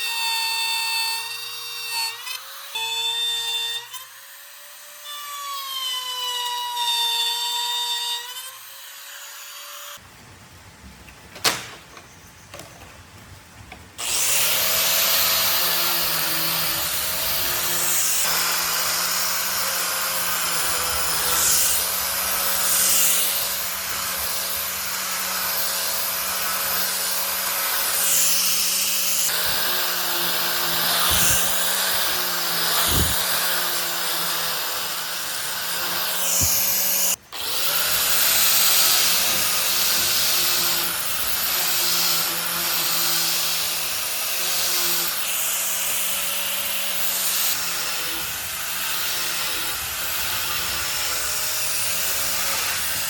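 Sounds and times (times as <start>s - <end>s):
power tool whining through wood: 0.0s - 10.0s, 13.7s - 53.0s.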